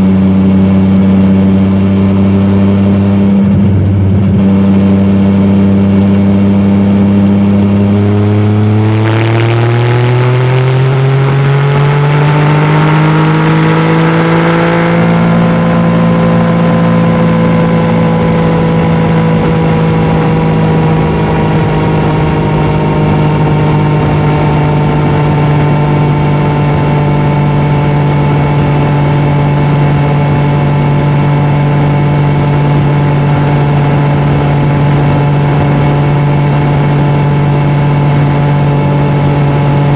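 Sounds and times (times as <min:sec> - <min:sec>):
motorcycle engine at highway speed: 0:00.0 - 0:39.9.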